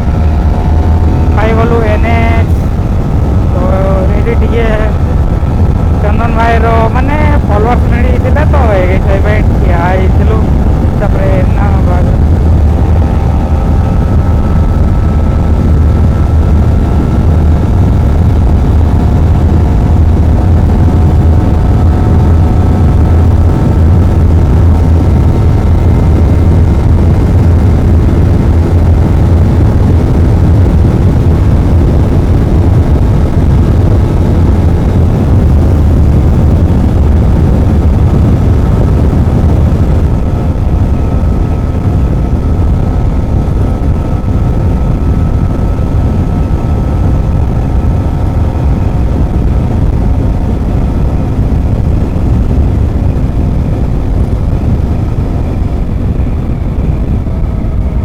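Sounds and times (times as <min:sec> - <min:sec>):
motorcycle engine hum: 0:00.0 - 0:58.0
wind rumble on microphone: 0:00.0 - 0:58.0.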